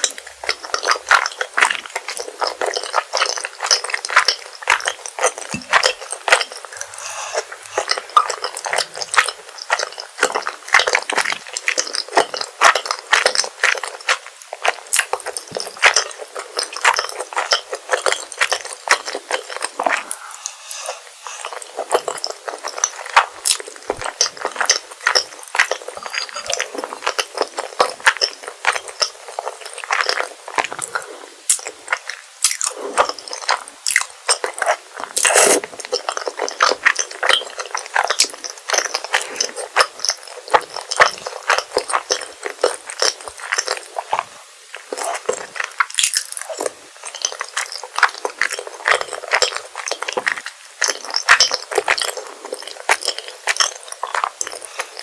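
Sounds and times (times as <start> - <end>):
wet chewing mouth sounds: 0.0 - 55.0.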